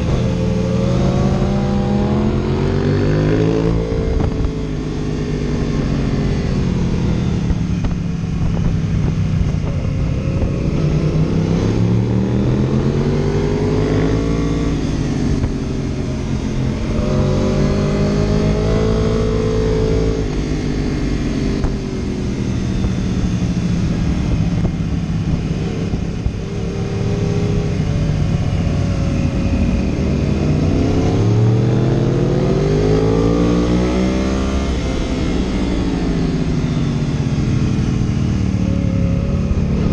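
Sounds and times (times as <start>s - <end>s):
vehicle engine revving: 0.0s - 39.9s
wind and road noise: 0.0s - 39.9s.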